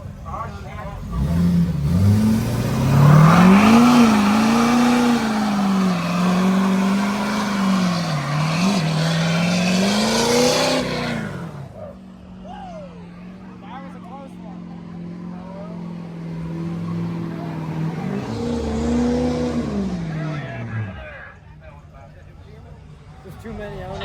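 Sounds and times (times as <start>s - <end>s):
tyres squealing in a burnout: 0.0s - 21.6s
truck engine revving: 0.0s - 24.0s.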